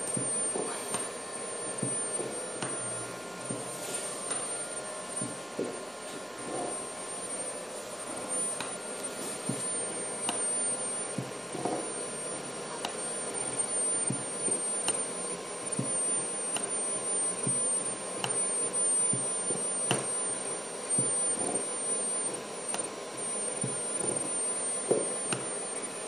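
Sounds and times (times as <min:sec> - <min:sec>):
robot arm servos whining: 0:00.0 - 0:26.0.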